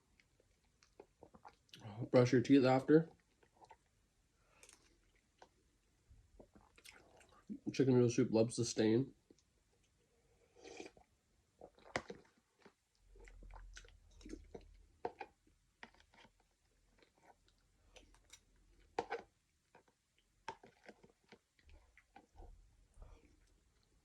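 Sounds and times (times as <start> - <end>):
faint chewing and mouth sounds: 0.0 - 7.8, 9.1 - 24.0.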